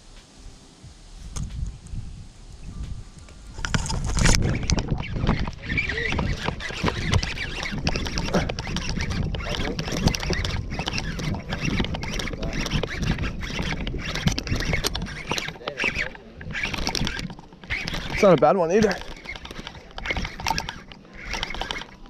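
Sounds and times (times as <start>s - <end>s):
clicking handling noise: 3.6s - 22.0s.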